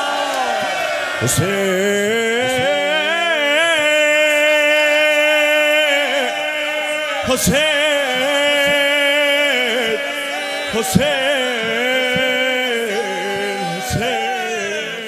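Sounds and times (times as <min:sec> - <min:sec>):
man singing a lament: 0:01.2 - 0:15.0.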